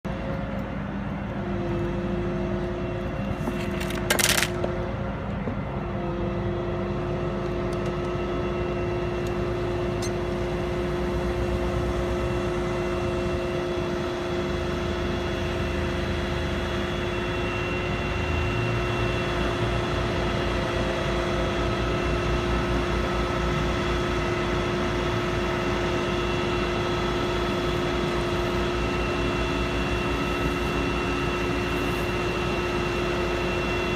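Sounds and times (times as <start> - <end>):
crane engine humming and whining: 0.0 - 33.9.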